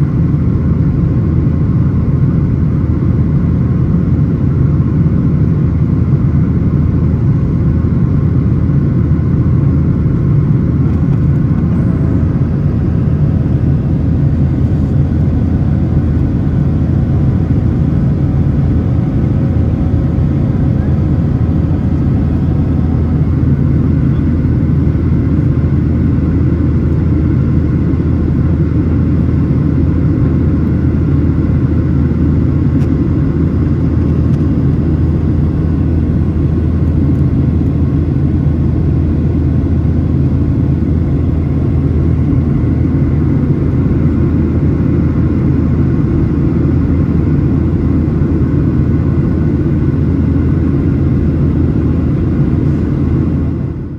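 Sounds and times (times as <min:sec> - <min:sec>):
faint steady engine whine: 0:00.0 - 0:53.9
jet engines deep rumble: 0:00.0 - 0:53.9.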